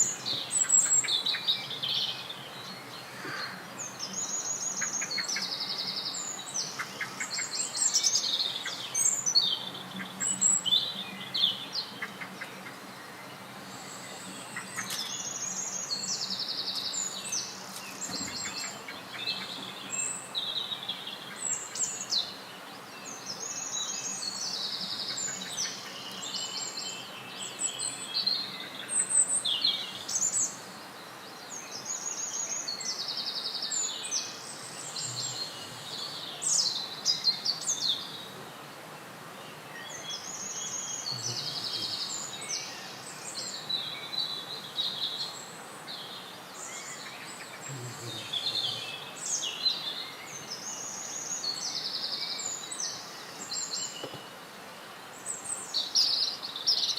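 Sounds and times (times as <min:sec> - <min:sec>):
faint background hiss: 0:00.0 - 0:56.9
songbirds singing: 0:00.0 - 0:56.9.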